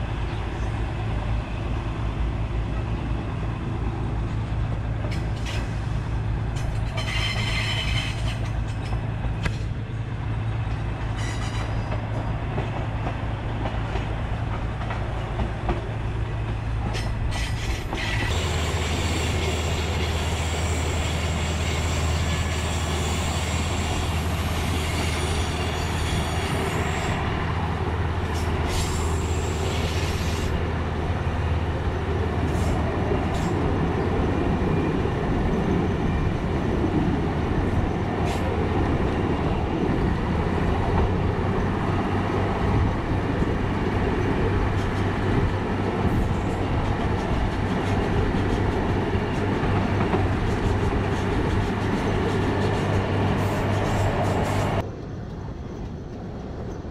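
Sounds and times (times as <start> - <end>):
rushing wind: 0.0 - 56.9
train wheels rumbling on rails: 0.0 - 56.9.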